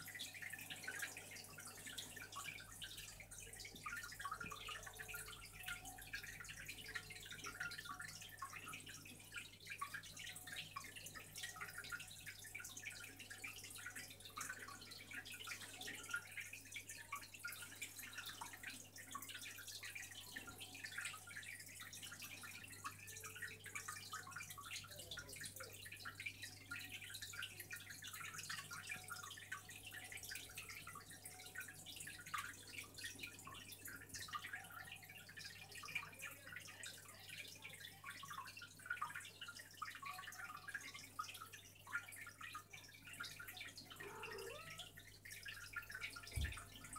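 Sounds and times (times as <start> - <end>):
water dripping and trickling: 0.0 - 46.9.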